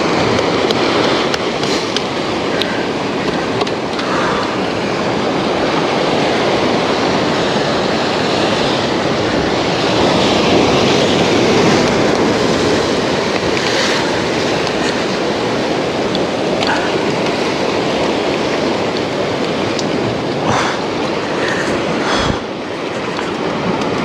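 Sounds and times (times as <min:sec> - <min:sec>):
waves breaking against rocks: 0:00.0 - 0:24.0.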